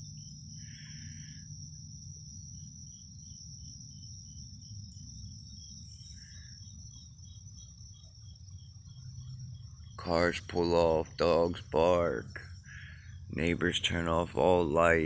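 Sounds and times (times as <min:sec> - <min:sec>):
crickets trilling: 0:00.0 - 0:15.0
insect chirping: 0:00.0 - 0:15.0.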